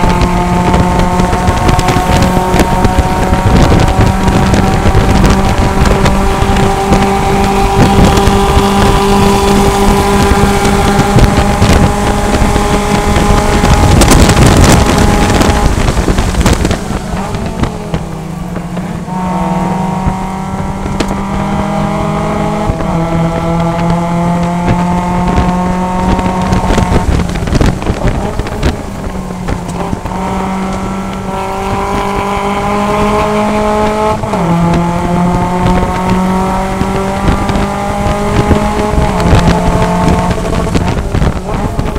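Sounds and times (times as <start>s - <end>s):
race car engine revving: 0.0s - 41.9s
rush of noise: 0.0s - 41.9s.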